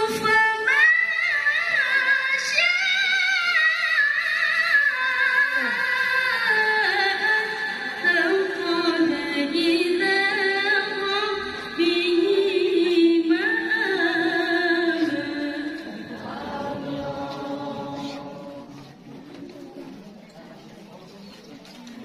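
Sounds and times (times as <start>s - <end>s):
woman reciting in melodic song: 0.0s - 19.2s.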